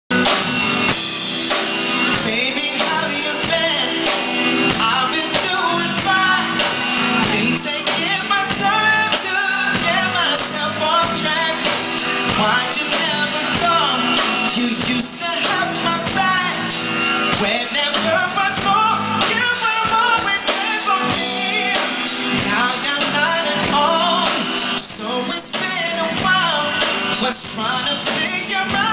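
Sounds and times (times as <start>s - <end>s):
live band playing: 0.1s - 28.9s
man singing into a microphone: 2.0s - 28.9s.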